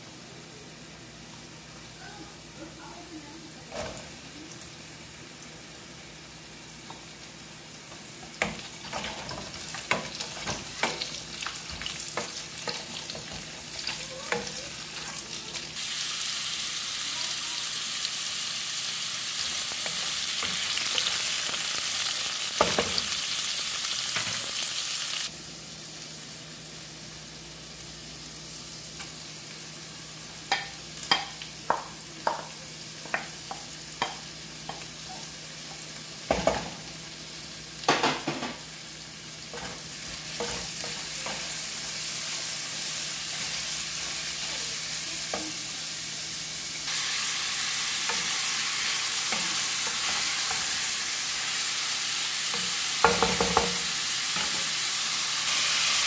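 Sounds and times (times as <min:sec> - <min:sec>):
vegetables sizzling in pot: 0:00.0 - 0:56.0.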